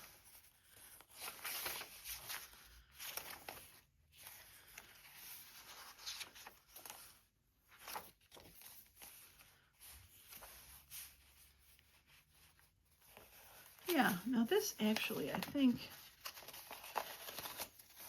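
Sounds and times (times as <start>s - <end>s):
paper and card rustling: 0.0s - 18.0s.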